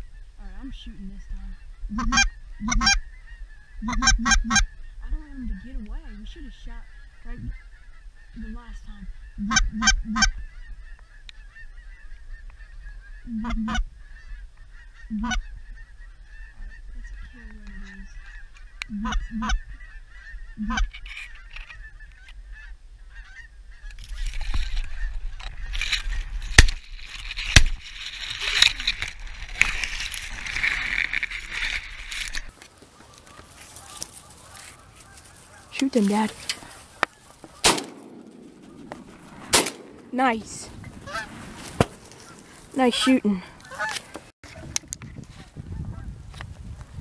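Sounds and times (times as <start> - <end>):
flock of geese honking: 0.0 - 39.6, 40.2 - 44.8
geese honking: 0.0 - 44.7.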